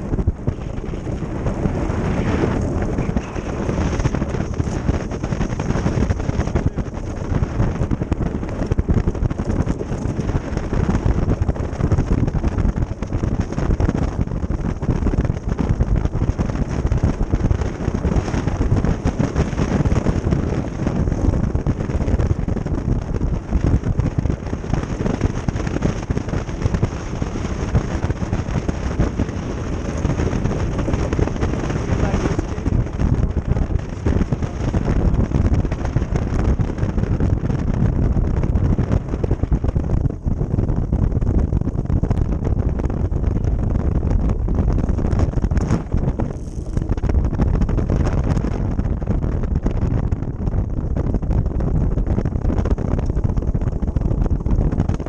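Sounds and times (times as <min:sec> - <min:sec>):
ice boat runners rumbling on ice: 0:00.0 - 0:55.0
wind buffeting microphone: 0:00.0 - 0:55.0.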